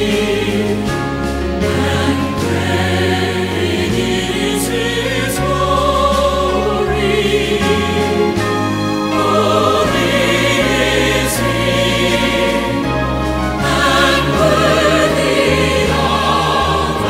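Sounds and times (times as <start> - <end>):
choir singing: 0.0 - 17.0
low bass line: 0.0 - 17.0.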